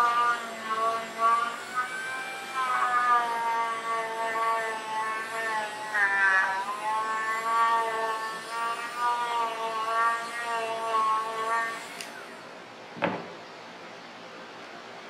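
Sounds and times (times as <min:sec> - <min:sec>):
rotary tool whining: 0:00.0 - 0:12.6.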